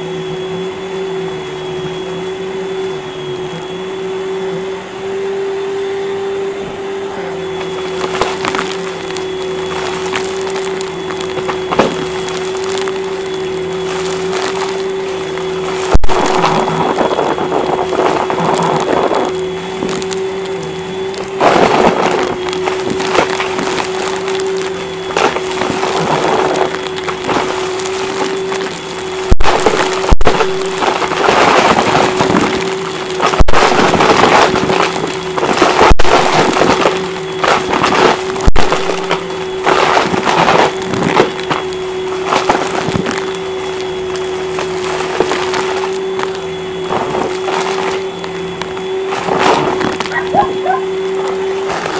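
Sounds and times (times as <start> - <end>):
vacuum cleaner motor whine: 0.0 - 51.9
debris rattling through vacuum hose: 7.6 - 51.9.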